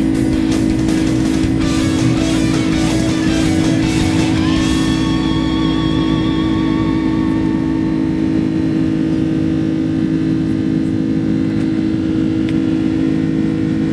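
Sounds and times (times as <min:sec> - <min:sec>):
jet engine drone in cabin: 0:00.0 - 0:13.9.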